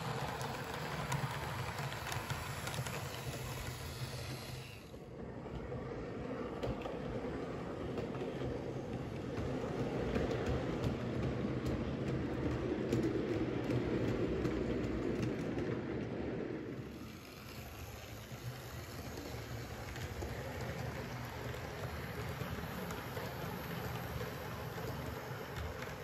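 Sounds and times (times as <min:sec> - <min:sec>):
faint clicks of train wheels: 0:00.0 - 0:26.0
train rumbling on track: 0:00.0 - 0:26.0.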